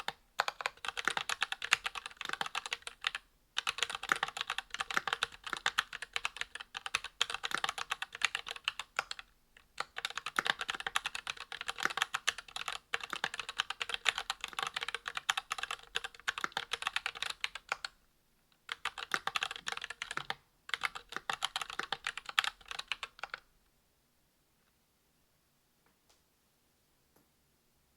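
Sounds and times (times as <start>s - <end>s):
fast typing on mechanical keyboard: 0.0s - 17.9s, 18.7s - 23.4s.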